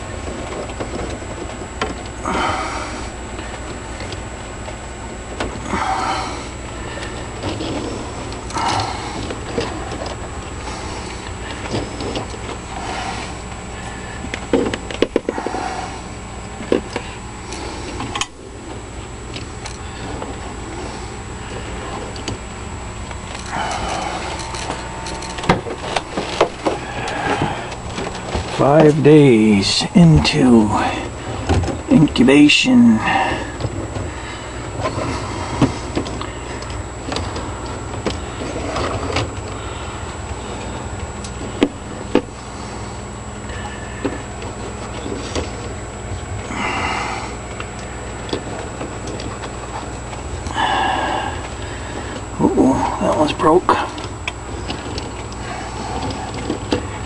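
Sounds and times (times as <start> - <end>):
small fan humming: 0.0 - 57.0.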